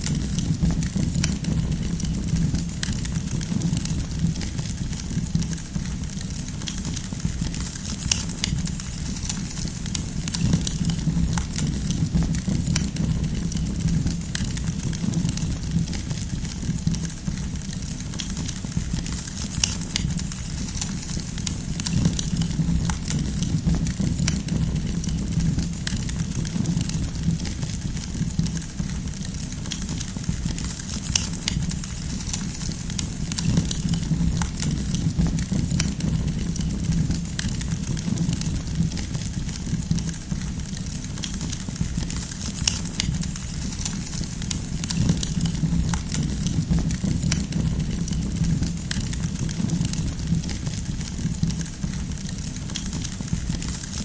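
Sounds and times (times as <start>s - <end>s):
campfire flames rumbling: 0.0s - 54.0s
firewood crackling and popping: 0.0s - 54.0s.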